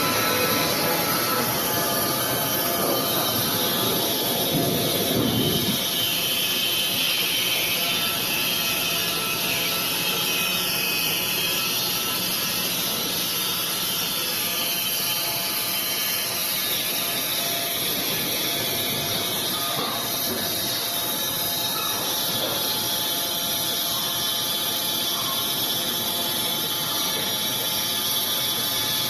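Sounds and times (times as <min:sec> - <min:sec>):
band saw blade hiss and whine: 0:00.0 - 0:29.0.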